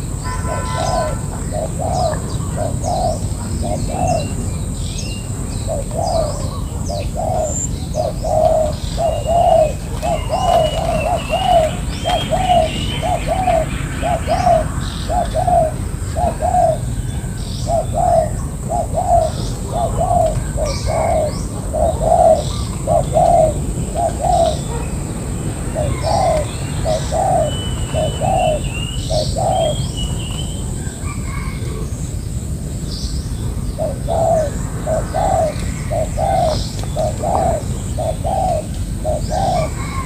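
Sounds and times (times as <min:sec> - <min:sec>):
doves cooing: 0:00.0 - 0:32.1, 0:33.5 - 0:40.0
small birds chirping: 0:00.0 - 0:40.0.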